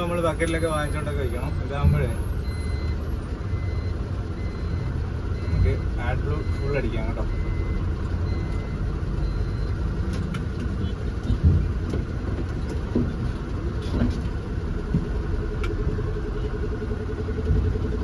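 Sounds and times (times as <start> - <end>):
diesel lorry engine running: 0.0 - 18.0.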